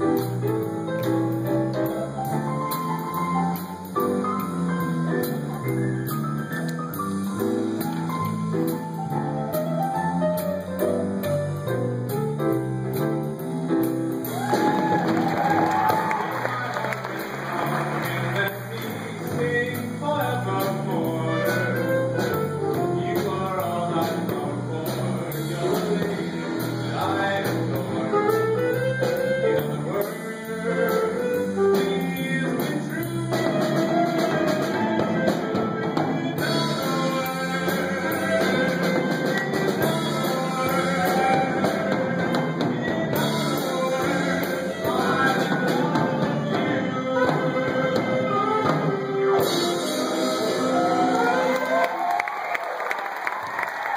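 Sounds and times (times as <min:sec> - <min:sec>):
live jazz band playing: 0:00.0 - 0:53.9.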